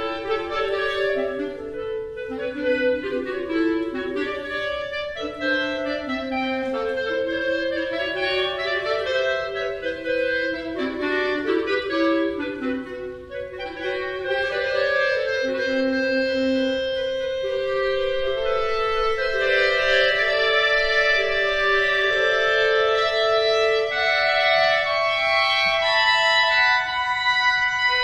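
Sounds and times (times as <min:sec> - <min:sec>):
clarinet ensemble playing: 0:00.0 - 0:28.0.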